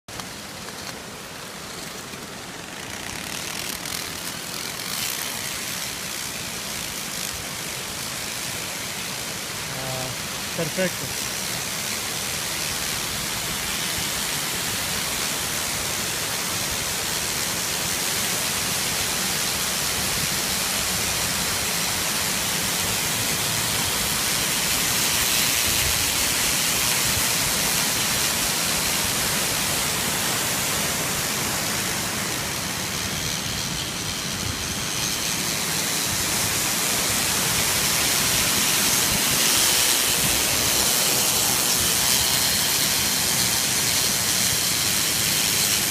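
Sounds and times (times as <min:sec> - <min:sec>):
waterfall pouring: 0:00.2 - 0:45.9.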